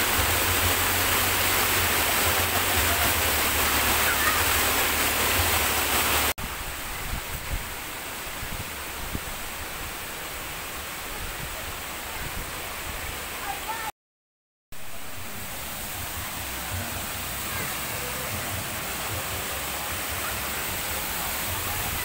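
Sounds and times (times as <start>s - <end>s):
stream running over rocks: 0.0s - 13.9s, 14.8s - 22.0s
water rushing through pool: 0.0s - 13.9s, 14.8s - 22.0s.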